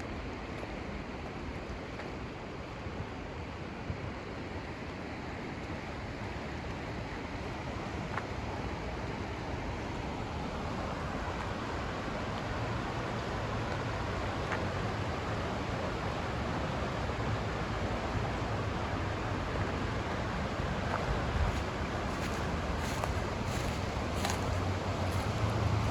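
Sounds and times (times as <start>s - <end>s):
pink noise hiss: 0.0s - 25.9s.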